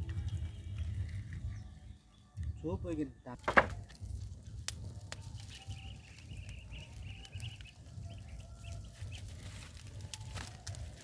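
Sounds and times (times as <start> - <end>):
wind rumble on microphone: 0.0 - 3.0, 3.8 - 11.0
wood fire crackling: 0.0 - 11.0.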